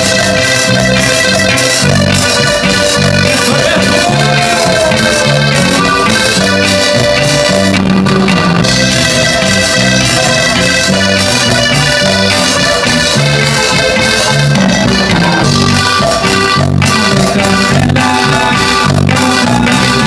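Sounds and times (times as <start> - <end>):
bass line: 0.0 - 20.0
live band playing dance tune: 0.0 - 20.0.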